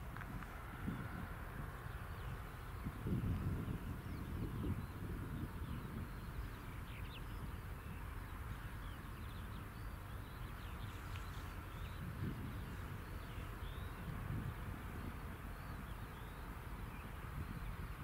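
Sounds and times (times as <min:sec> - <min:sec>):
small birds chirping: 0:00.0 - 0:18.0
wind gusts on microphone: 0:00.0 - 0:18.0.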